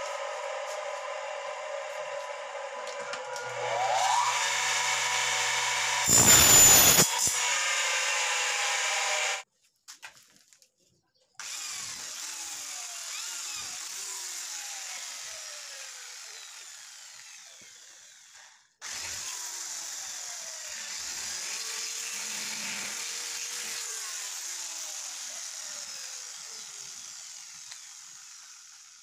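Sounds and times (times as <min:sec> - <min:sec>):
electric drill drilling metal: 0:00.0 - 0:09.4, 0:11.4 - 0:29.0
miter saw cutting metal: 0:00.0 - 0:09.4, 0:11.4 - 0:29.0.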